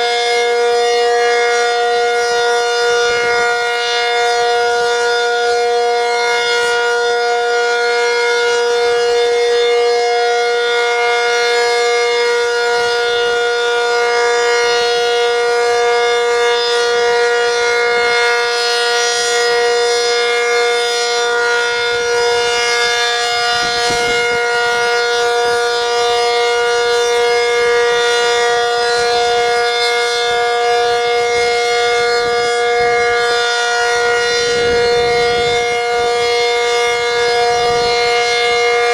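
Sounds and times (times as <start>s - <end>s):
dual-tone siren chord: 0.0s - 38.9s.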